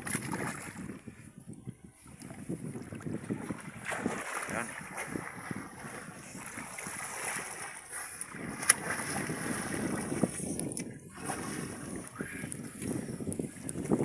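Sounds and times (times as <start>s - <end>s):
water splashing and sloshing: 0.0s - 1.3s, 2.0s - 14.0s.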